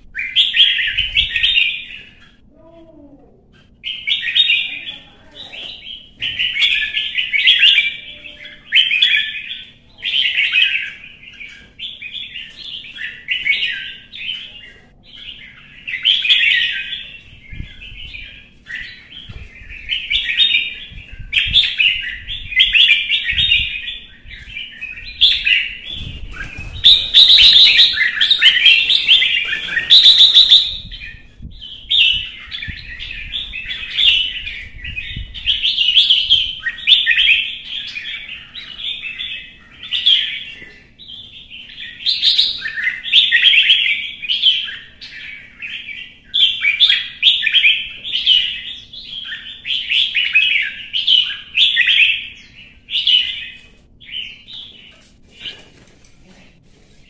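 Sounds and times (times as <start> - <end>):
bird warbling song: 0.0 - 2.5, 3.6 - 55.6.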